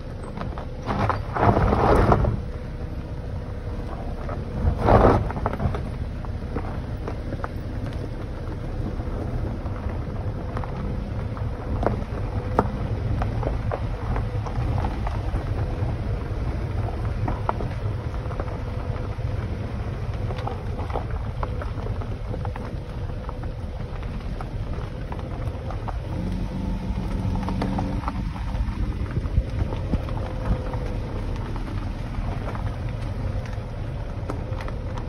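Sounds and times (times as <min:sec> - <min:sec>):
tyres rumbling over gravel: 0:00.0 - 0:35.0.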